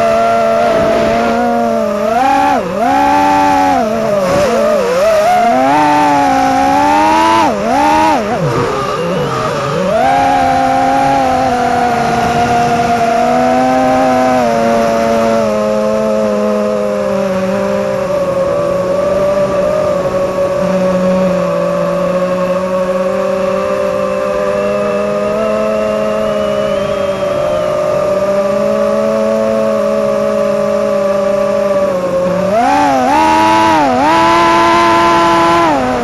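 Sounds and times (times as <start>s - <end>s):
quadcopter motors whining: 0.0s - 36.0s.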